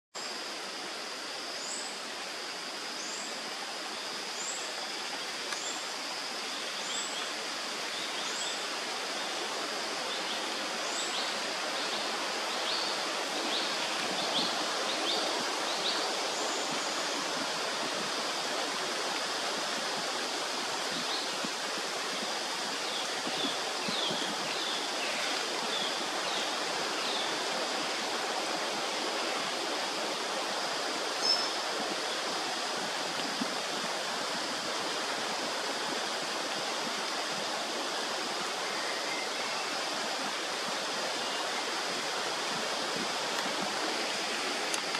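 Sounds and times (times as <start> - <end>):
rushing hiss: 0.2 - 44.9.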